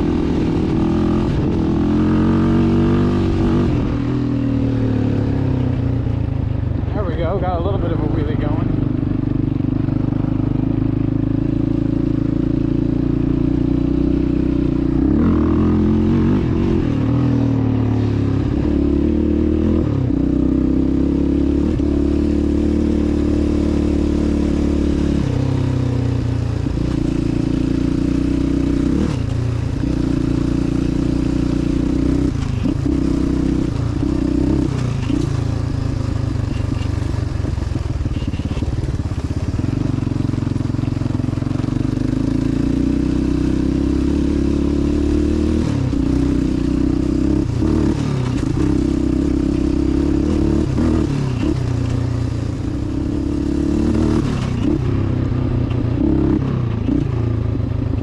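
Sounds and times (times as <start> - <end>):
quad bike engine revving: 0.0 - 6.2, 6.9 - 58.0.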